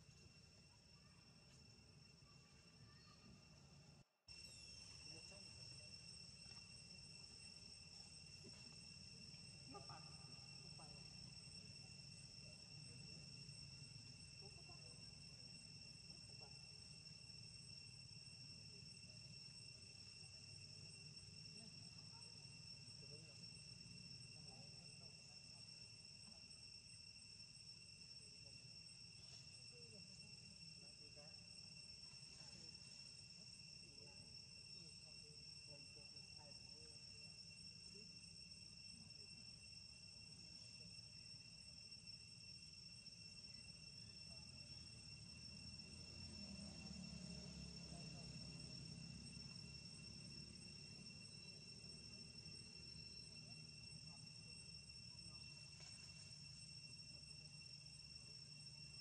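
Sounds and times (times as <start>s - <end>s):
high-pitched insect drone: 0.0s - 59.0s.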